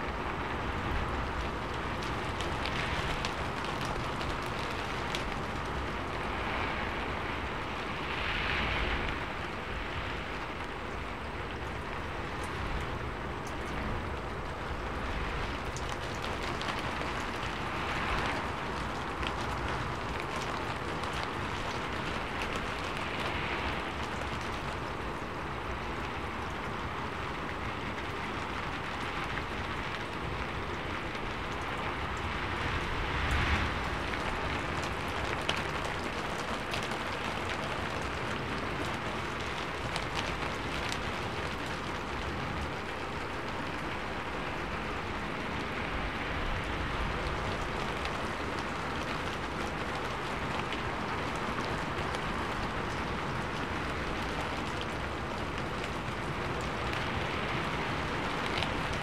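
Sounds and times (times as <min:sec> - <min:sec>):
rain drumming on a metal roof: 0:00.0 - 0:59.0.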